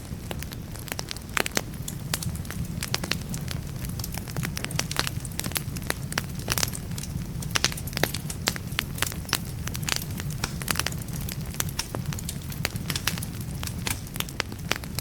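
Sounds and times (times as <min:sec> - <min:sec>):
fire rumbling: 0:00.0 - 0:15.0
firewood popping and snapping: 0:00.1 - 0:15.0.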